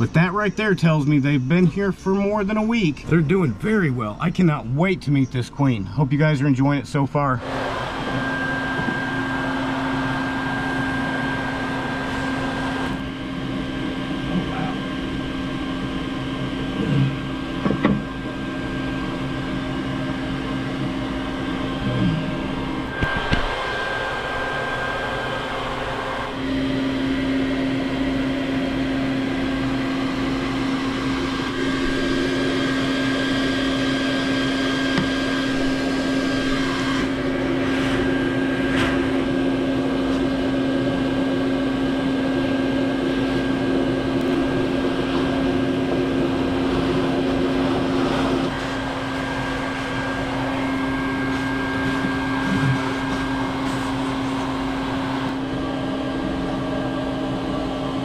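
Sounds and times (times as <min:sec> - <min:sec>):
vacuum motor humming: 0:07.4 - 0:58.0.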